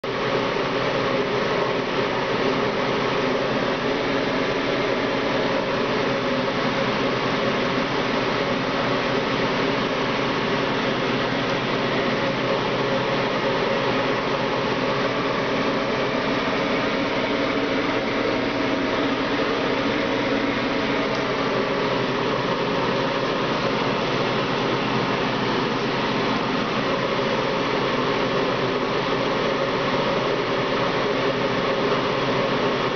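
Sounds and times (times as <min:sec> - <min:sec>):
mechanical hum and whir: 0:00.0 - 0:32.9.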